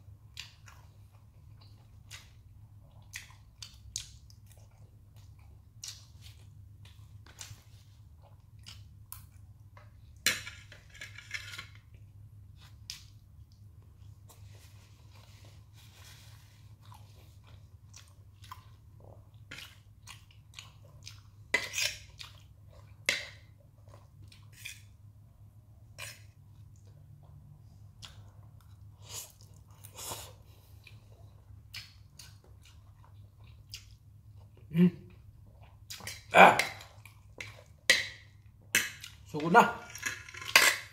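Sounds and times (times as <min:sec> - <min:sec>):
person chewing: 0:00.3 - 0:10.2, 0:12.6 - 0:25.0, 0:25.8 - 0:39.3.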